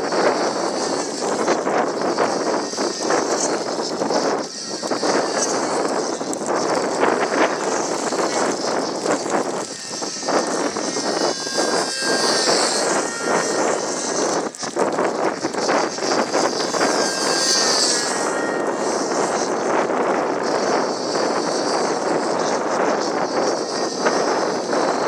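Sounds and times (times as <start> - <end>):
model plane motor buzzing: 0.0 - 25.0.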